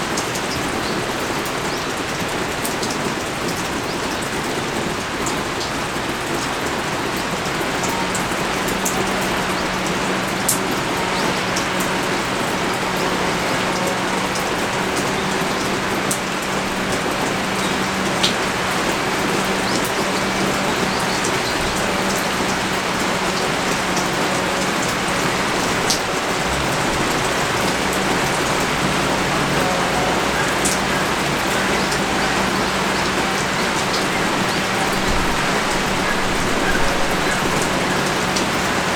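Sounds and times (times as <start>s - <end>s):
heavy rain pouring: 0.0s - 38.9s
raindrops ticking close by: 0.0s - 38.9s.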